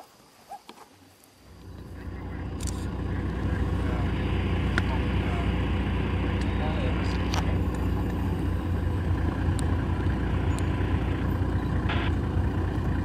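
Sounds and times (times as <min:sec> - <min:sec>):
vehicle engine low rumble: 0:01.3 - 0:13.0.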